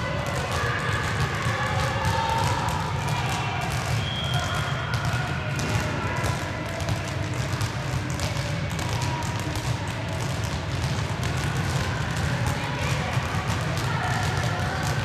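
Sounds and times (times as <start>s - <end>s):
balls bouncing on hall floor: 0.0s - 15.0s.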